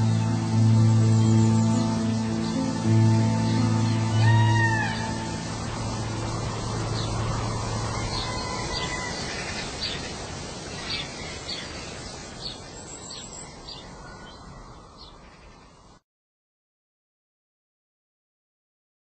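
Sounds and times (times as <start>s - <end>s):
birds chirping: 0.0s - 16.0s
steady rushing hiss: 0.0s - 16.0s.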